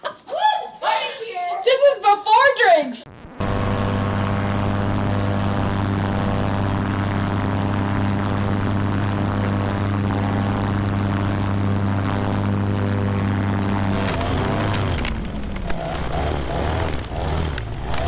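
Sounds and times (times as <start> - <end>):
paramotor engine and propeller: 3.4 - 18.0.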